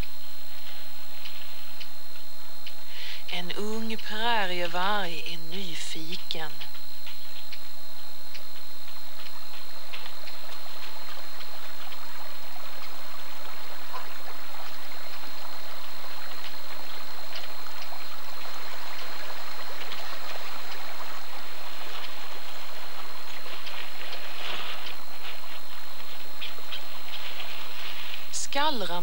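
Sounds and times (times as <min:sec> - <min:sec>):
rattlesnake rattling: 0:00.0 - 0:03.2, 0:06.7 - 0:28.9.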